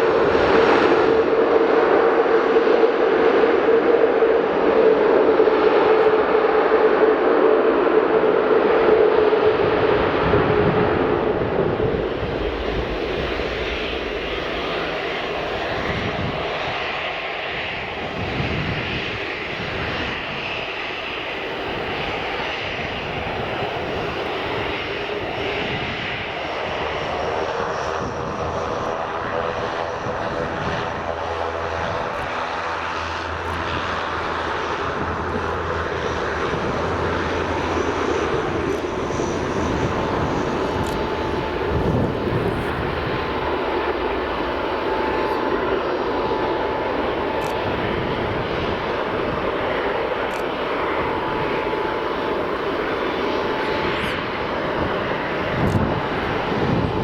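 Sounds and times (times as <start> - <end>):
jet airliner engines rushing: 0.0 - 57.0.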